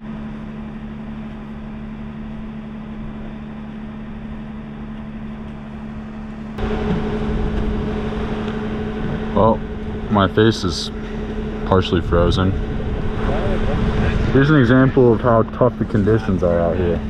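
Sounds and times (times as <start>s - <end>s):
higher mechanical tone: 0.0s - 17.0s
mechanical hum: 0.0s - 17.0s.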